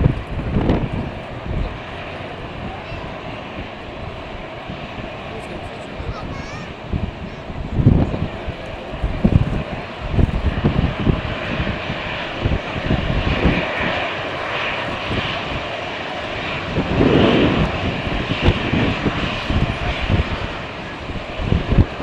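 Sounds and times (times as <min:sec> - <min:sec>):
airliner engines roaring: 0:00.0 - 0:22.0
wind buffeting microphone: 0:00.0 - 0:22.0.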